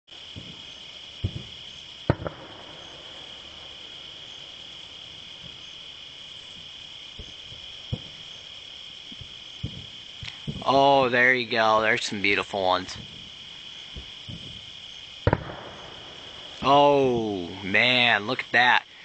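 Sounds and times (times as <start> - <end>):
distant firework bangs: 0.1 - 18.2
crickets chirring: 0.1 - 19.0.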